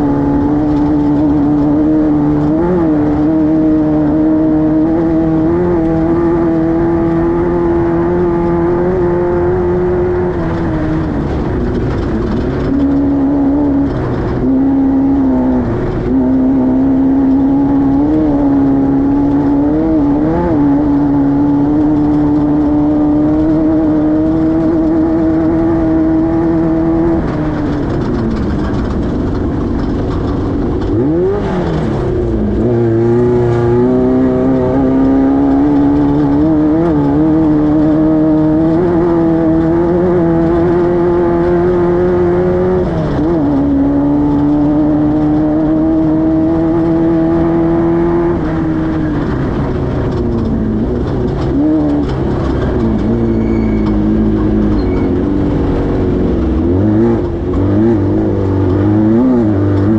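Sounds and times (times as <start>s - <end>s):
race car engine running hard: 0.0s - 59.9s.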